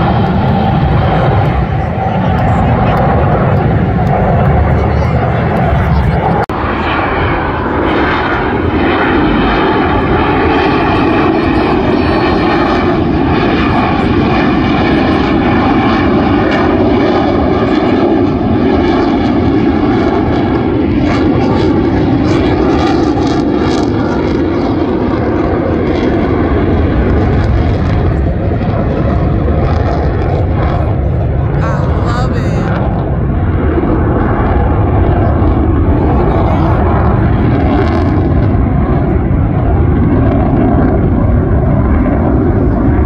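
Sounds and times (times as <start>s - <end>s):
jet engines roaring overhead: 0.0s - 43.0s.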